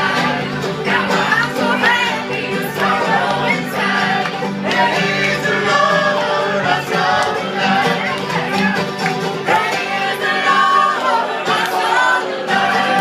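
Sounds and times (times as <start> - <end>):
bluegrass string band playing: 0.0 - 13.0
voices singing together: 0.0 - 13.0.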